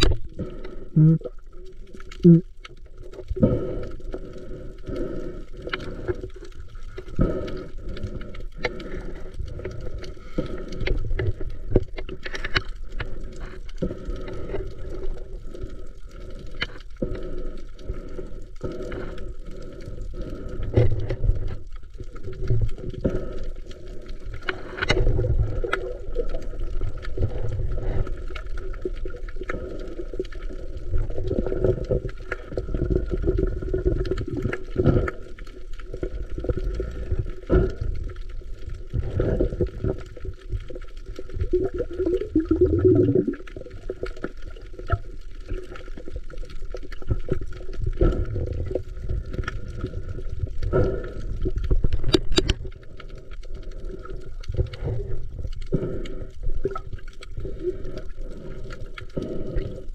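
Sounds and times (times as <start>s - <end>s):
water sloshing and gurgling: 0.0s - 59.9s.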